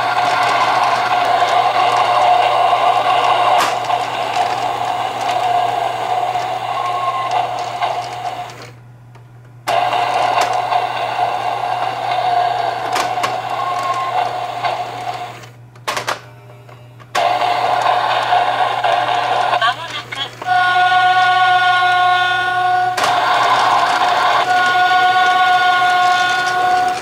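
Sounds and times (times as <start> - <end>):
toy train motor running: 0.0 - 8.8, 9.7 - 15.6, 16.6 - 27.0.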